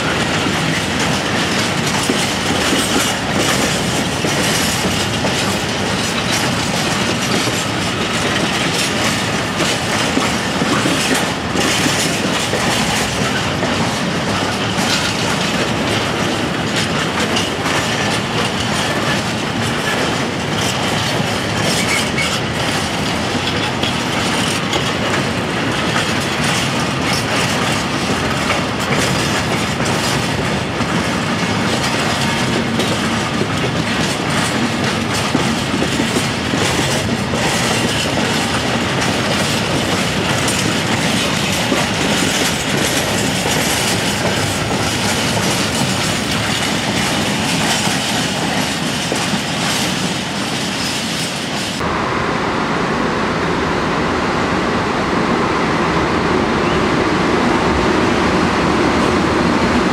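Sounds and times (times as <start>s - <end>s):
clatter over rail joints: 0.0s - 51.9s
train wheels rumbling on rail: 0.0s - 59.9s.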